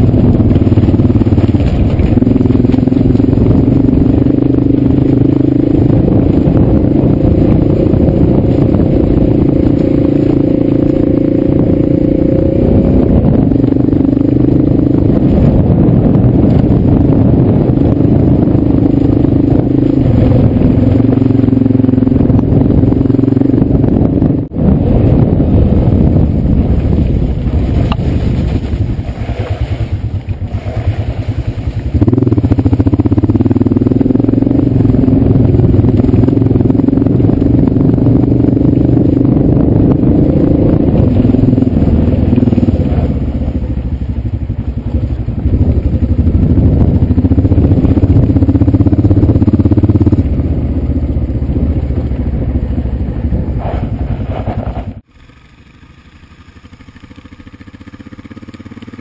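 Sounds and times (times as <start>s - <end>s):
motorcycle engine under load: 0.0s - 59.0s.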